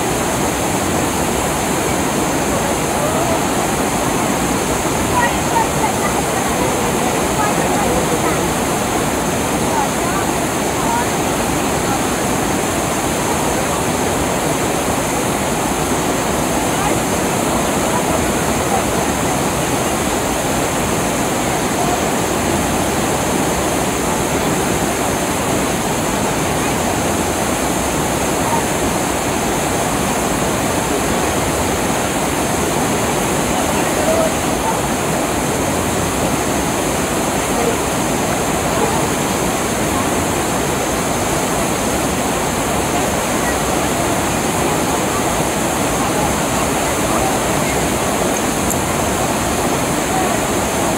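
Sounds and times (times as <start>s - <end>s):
river rapids rushing over boulders: 0.0s - 50.9s.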